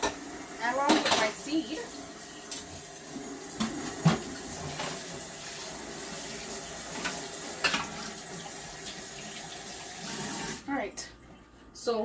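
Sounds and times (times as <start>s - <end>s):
tap water running into sink: 0.0s - 10.6s.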